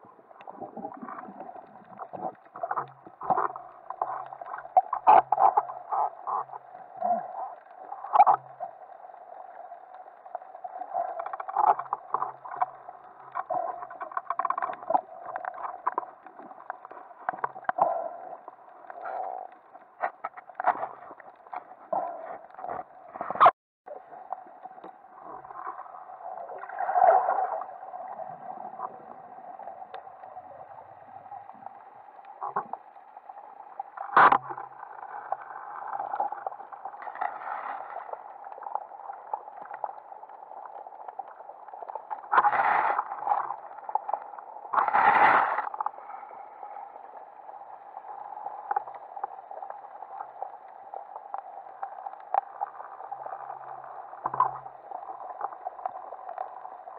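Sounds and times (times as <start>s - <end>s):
rushes of water noise: 0.0s - 56.9s.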